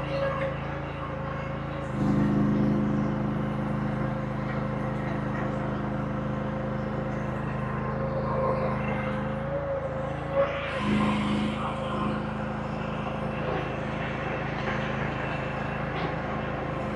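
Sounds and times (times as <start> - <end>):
earthmoving machine engine running: 0.0 - 16.9
steady high whine: 0.0 - 16.9.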